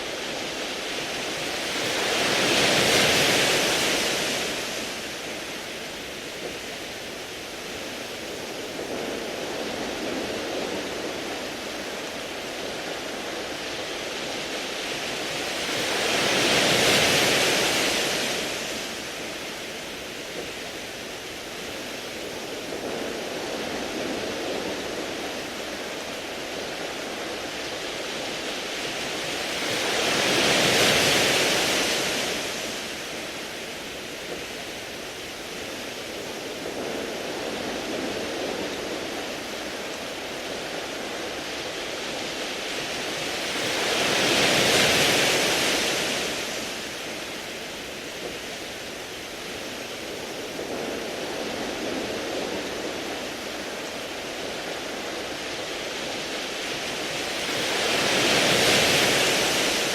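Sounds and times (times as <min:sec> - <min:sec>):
waves washing over pebbles: 0:00.0 - 0:59.9.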